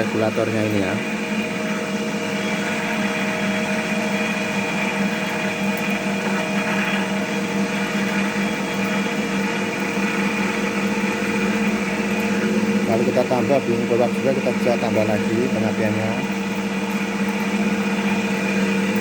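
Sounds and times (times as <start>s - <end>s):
machine motor hum: 0.0s - 19.0s.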